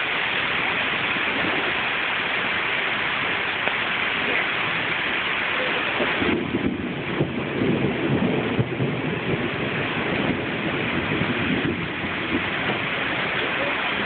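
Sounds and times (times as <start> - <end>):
heavy rain: 0.0 - 14.0
thunder rumbling: 0.0 - 14.0.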